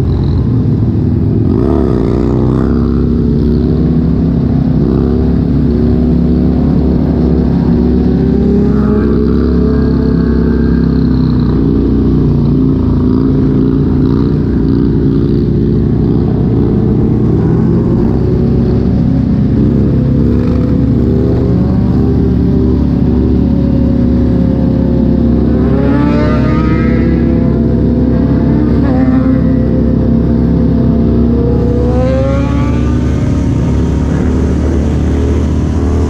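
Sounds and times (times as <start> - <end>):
motorcycle engine drone: 0.0 - 36.0
motorcycle engine revving: 0.0 - 36.0.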